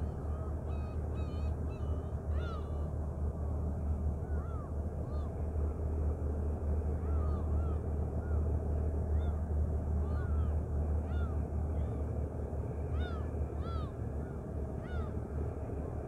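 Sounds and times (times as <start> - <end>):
ferry engine rumble: 0.0 - 16.0
gulls calling: 0.0 - 16.0.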